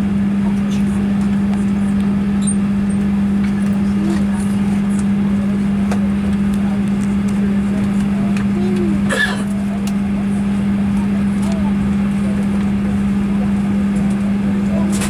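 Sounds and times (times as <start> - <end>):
aircraft cabin drone: 0.0 - 15.0
faint passenger chatter: 0.0 - 15.0.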